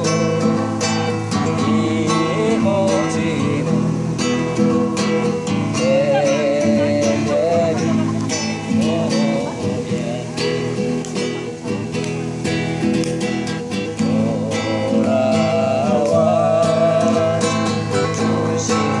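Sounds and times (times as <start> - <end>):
plucked acoustic guitar music: 0.0 - 19.0.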